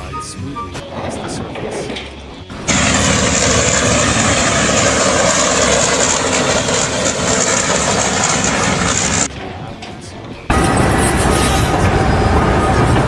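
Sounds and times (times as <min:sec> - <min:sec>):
loud machine noise: 0:00.8 - 0:13.0.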